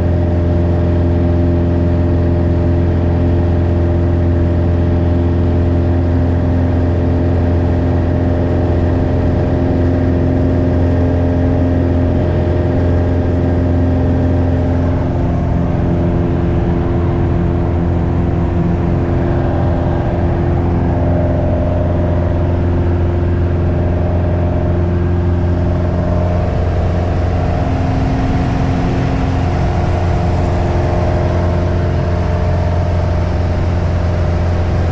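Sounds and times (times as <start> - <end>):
light aircraft engine and propeller: 0.0 - 34.9.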